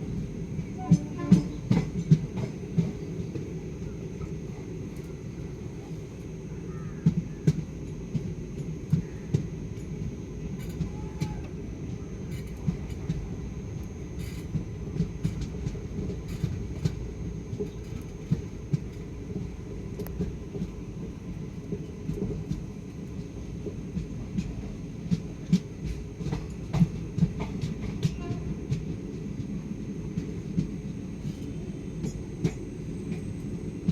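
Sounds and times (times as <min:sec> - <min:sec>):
train rumbling on rails: 0:00.0 - 0:33.9
wheel clacks on rail joints: 0:00.6 - 0:03.5, 0:07.0 - 0:33.9.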